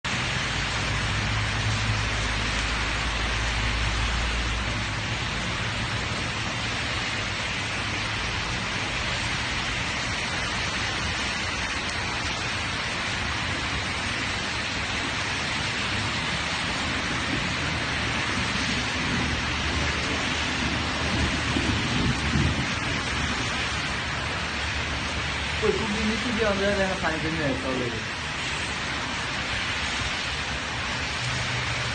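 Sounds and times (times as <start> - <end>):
heavy rain splashing: 0.0 - 31.9.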